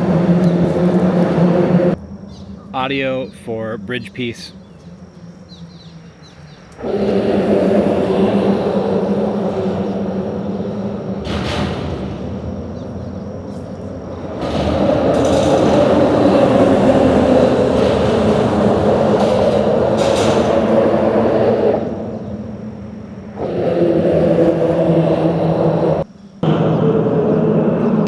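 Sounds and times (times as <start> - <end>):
traffic rumbling over a bridge: 0.0 - 28.0.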